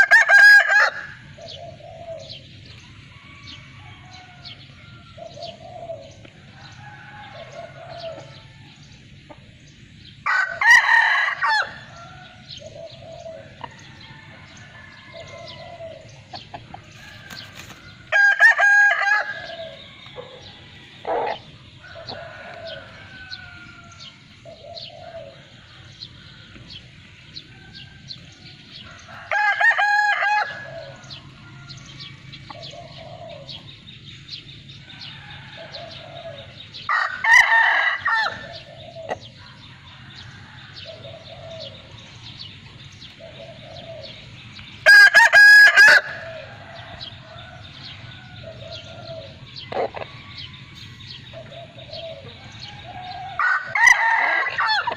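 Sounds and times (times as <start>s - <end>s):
chickens clucking: 0.0s - 10.7s, 11.6s - 37.4s, 38.0s - 54.9s
roosters crowing: 0.0s - 54.9s.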